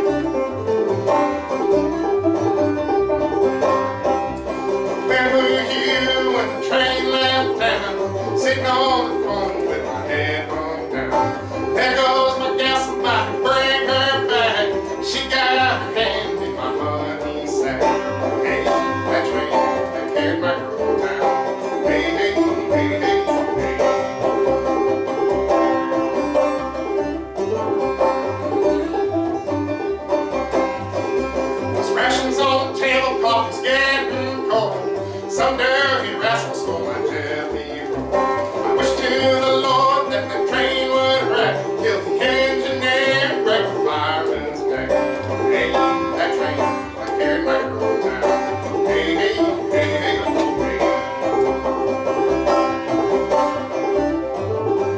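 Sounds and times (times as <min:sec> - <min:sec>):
banjo picking: 0:00.0 - 0:54.9.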